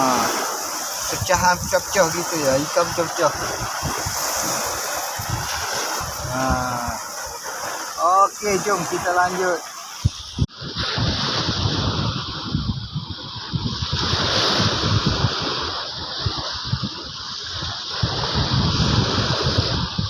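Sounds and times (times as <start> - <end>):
sea surf: 0.0 - 20.0
wind buffeting microphone: 0.0 - 20.0.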